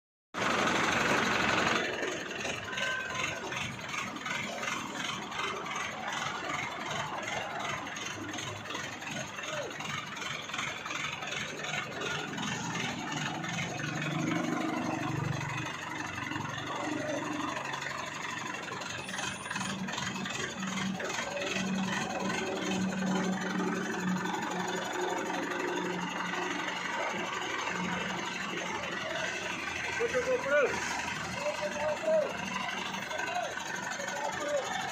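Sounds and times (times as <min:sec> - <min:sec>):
vehicle engine running: 0:00.4 - 0:34.9
faint voices: 0:02.1 - 0:34.9.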